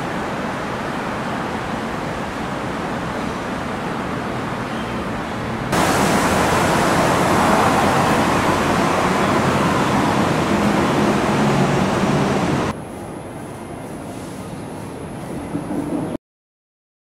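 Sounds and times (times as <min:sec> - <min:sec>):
bus engine and tyres rushing: 0:00.0 - 0:14.6
street background: 0:00.0 - 0:16.1.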